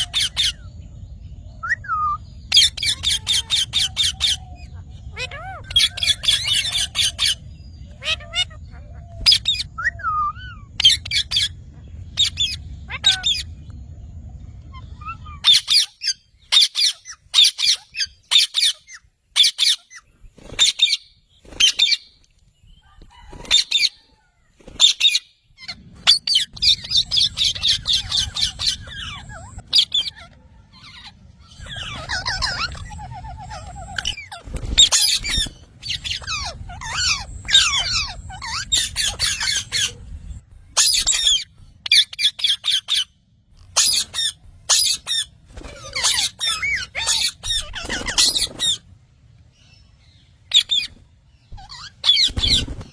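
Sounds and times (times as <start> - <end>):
parrot squawking: 0.0 - 0.6, 1.8 - 11.6, 12.2 - 13.5, 14.7 - 20.0, 24.8 - 48.8, 50.5 - 52.7.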